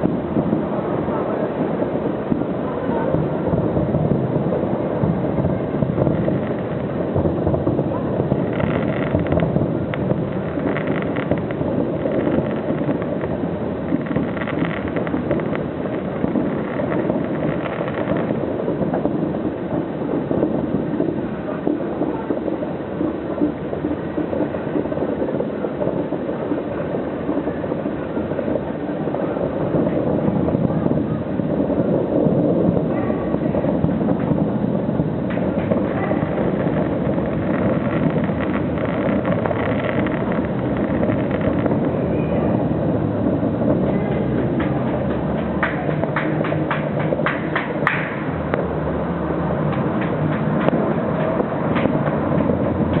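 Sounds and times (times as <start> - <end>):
distant fireworks rumble: 0.0 - 53.0
fireworks crackle: 0.0 - 53.0.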